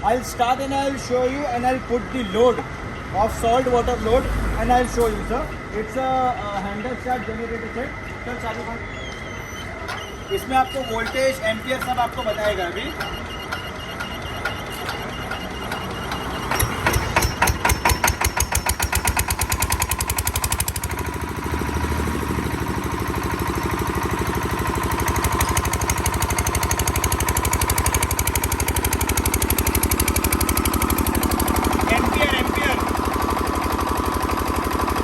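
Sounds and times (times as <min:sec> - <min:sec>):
diesel generator engine starting: 0:00.0 - 0:35.0.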